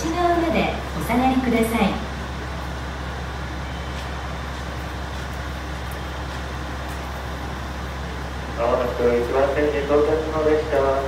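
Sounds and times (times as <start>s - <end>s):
railway platform hum and rumble: 0.0s - 11.0s.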